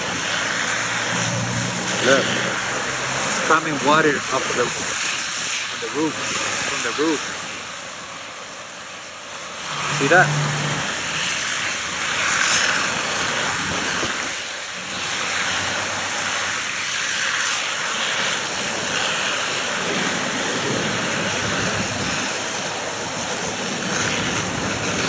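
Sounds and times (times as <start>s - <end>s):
water streaming and splashing: 0.0s - 25.0s.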